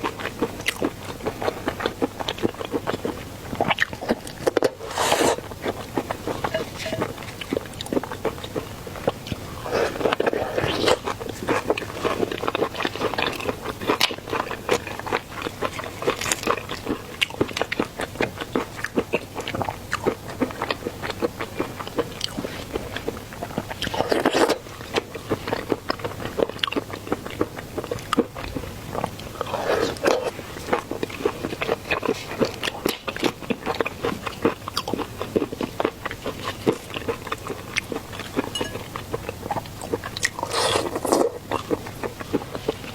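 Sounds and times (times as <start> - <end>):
close-miked chewing and crunching: 0.0 - 42.9.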